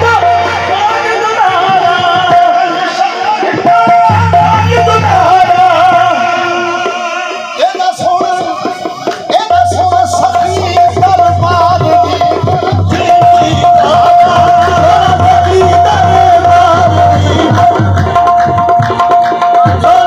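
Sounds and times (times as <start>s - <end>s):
person singing: 0.0s - 18.4s
percussion: 0.0s - 20.0s.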